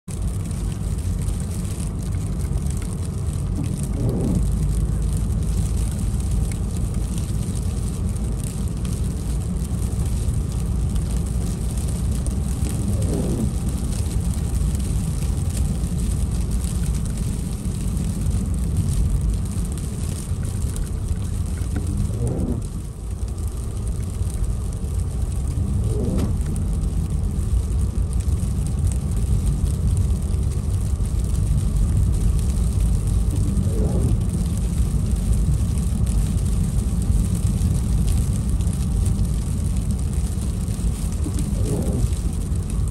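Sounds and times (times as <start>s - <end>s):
car road and engine rumble: 0.0s - 42.9s
snow ticking on windshield: 0.1s - 42.9s.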